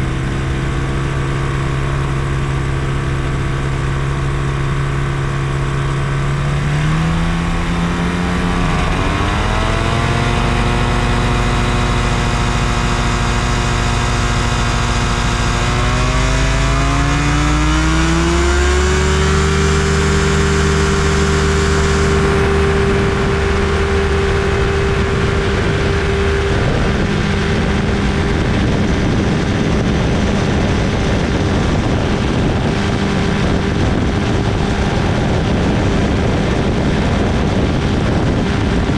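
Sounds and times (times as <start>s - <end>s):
light aircraft engine and propeller: 0.0s - 38.9s.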